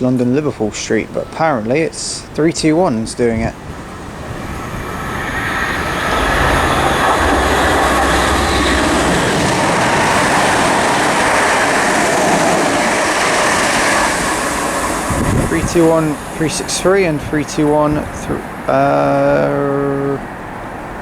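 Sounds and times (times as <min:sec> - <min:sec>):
train rushing past: 0:00.0 - 0:21.0.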